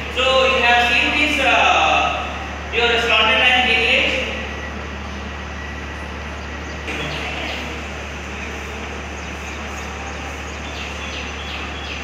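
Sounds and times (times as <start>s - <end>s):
steady background rumble: 0.0s - 12.0s.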